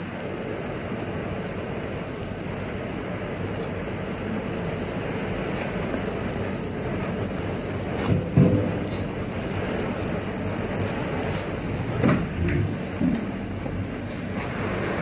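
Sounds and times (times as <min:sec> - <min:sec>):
gas burner flame rushing: 0:00.0 - 0:15.0.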